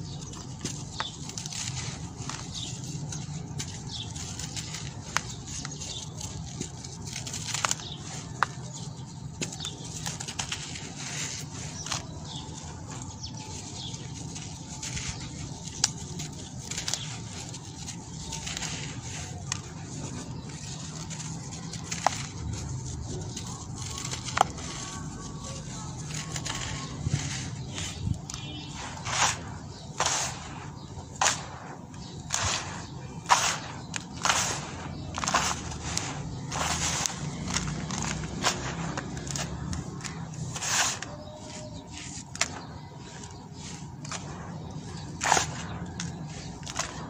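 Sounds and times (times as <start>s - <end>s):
gritty rustle of grains: 0.0s - 47.0s
crackles of lumps snapping: 0.2s - 47.0s.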